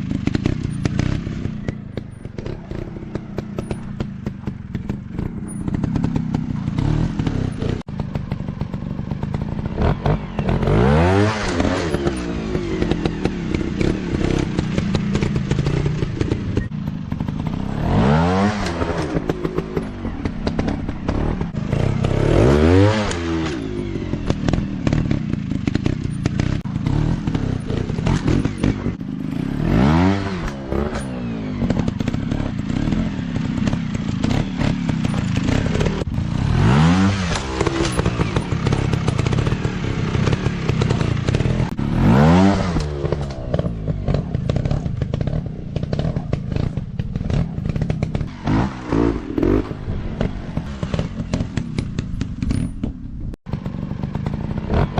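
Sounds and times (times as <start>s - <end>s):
engine revving: 0.0s - 8.3s, 9.2s - 54.9s
dirt bike engines idling: 0.0s - 54.9s.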